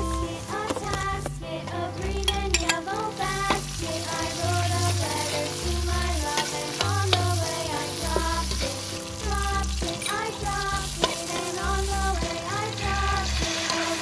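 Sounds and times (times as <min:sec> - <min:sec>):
food sizzling in a pan: 0:00.0 - 0:01.3, 0:02.1 - 0:14.0
background music with bass line: 0:00.0 - 0:14.0.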